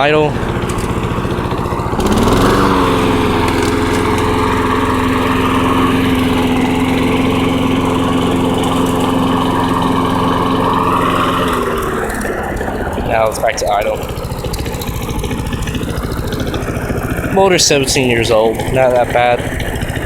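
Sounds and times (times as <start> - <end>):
lawn tractor engine revving: 0.0 - 20.0.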